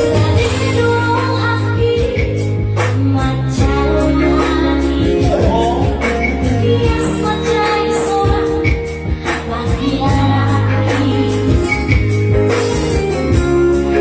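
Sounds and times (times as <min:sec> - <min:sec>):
person singing: 0:00.0 - 0:11.8
electronic keyboard with beat and bass: 0:00.0 - 0:14.0.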